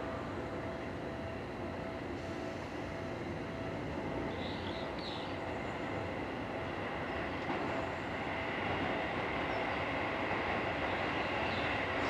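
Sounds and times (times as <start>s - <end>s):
high train tone: 0.0s - 12.0s
train wheels rumbling on rails: 0.0s - 12.0s.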